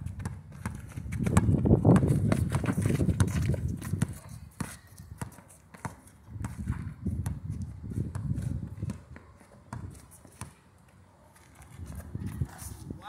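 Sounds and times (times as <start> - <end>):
basketball bouncing on asphalt: 0.0 - 10.8
players' footsteps: 0.0 - 13.0.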